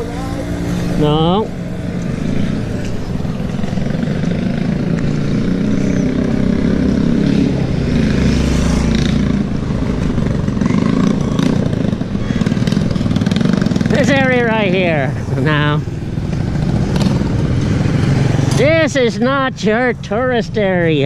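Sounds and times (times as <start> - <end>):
small motorcycles on dirt road: 0.0 - 21.0.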